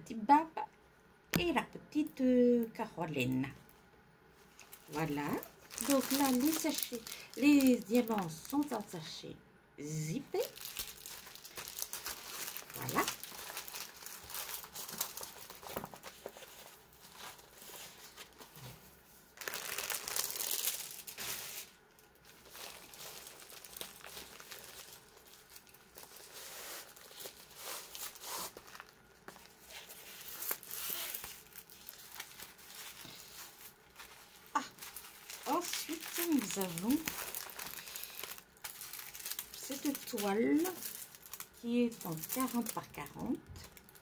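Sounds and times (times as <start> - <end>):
plastic packaging crinkling: 4.4 - 9.0, 10.3 - 18.7, 19.4 - 44.0.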